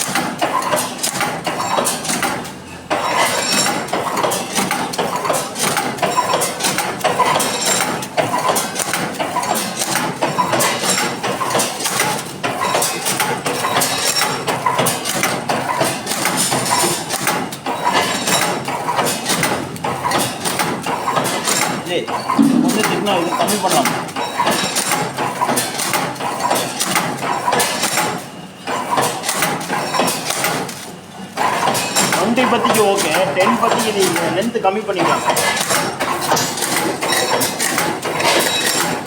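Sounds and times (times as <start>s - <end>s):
packing machine clattering: 0.0s - 22.0s, 23.0s - 39.0s.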